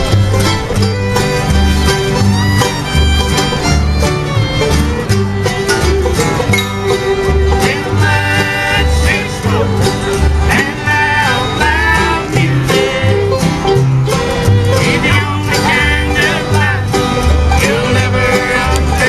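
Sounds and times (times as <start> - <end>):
alternating bass line: 0.0 - 19.0
banjo: 0.0 - 19.0
guitar: 0.0 - 19.0.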